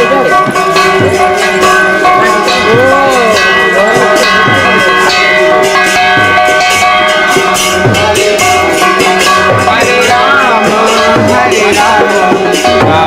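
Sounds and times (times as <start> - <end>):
held sustained tones: 0.0 - 13.0
jingling hand percussion: 0.0 - 13.0
steady drumbeat: 0.0 - 13.0.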